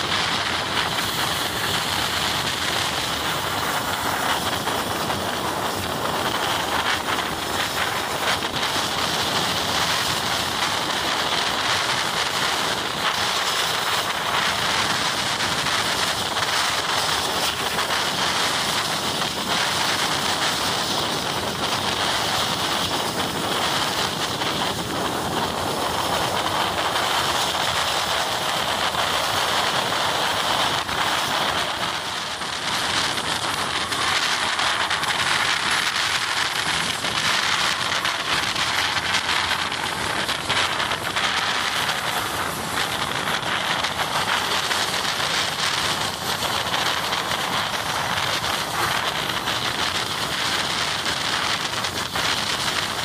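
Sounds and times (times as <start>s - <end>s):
moving train rushing noise: 0.0s - 53.0s.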